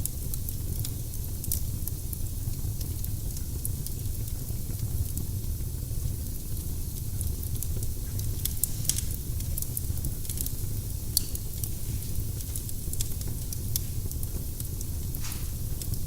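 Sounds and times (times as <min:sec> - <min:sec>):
fire low rumble: 0:00.0 - 0:16.0
firewood crackling and popping: 0:00.0 - 0:16.0.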